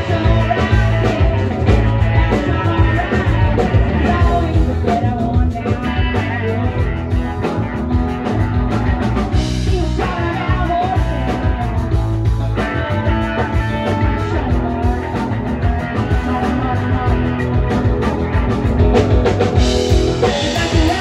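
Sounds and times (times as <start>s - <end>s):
drum kit: 0.0s - 21.0s
electric bass: 0.0s - 21.0s
electric guitar: 0.0s - 21.0s
person singing: 0.0s - 21.0s.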